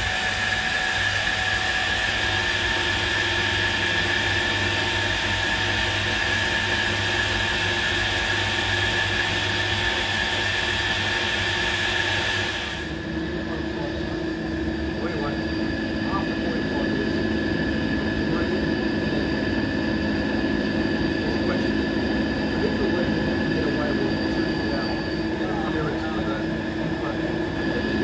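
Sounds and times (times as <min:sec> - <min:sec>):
lathe milling high whine: 0:00.0 - 0:28.0.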